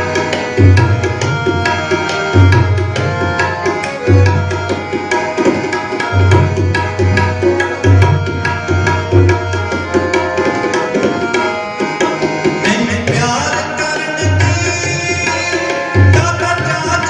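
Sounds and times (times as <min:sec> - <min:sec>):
tabla playing steady rhythm: 0:00.0 - 0:17.0.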